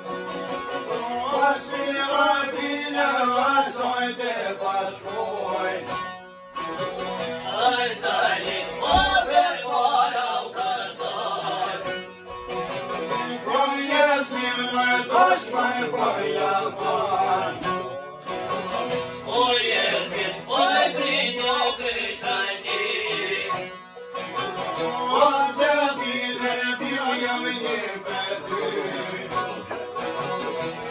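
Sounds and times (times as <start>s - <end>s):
plucked lutes with drone: 0.0s - 30.9s
men singing a folk song: 0.6s - 6.1s, 7.2s - 12.1s, 12.8s - 23.8s, 24.4s - 30.2s.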